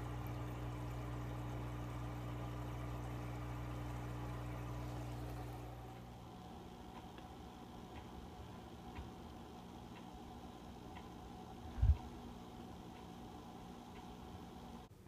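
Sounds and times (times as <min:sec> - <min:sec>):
motor humming: 0:00.0 - 0:14.9.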